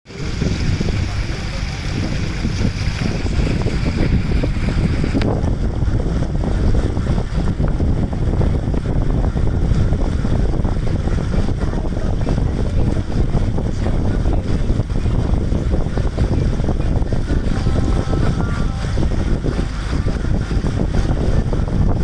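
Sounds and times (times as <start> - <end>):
boat running noise: 0.0 - 22.0
wind buffeting microphone: 0.1 - 22.0.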